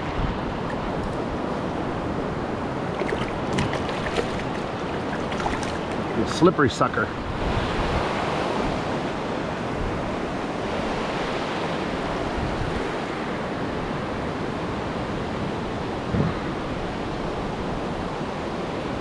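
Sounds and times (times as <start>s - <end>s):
small waves breaking: 0.0s - 19.0s.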